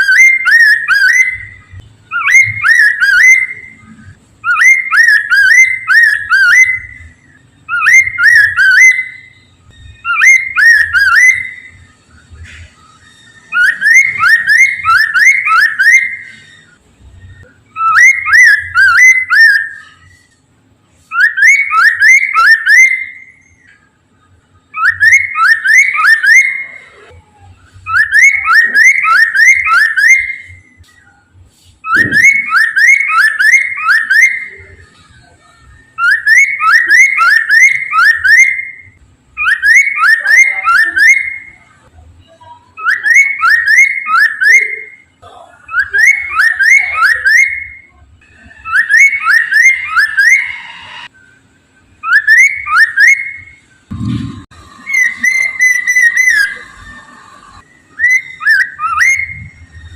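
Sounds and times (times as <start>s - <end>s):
bird singing whistled notes: 0.0s - 20.4s, 21.0s - 23.9s, 24.6s - 41.9s, 42.7s - 45.1s, 45.7s - 54.0s, 54.6s - 59.9s.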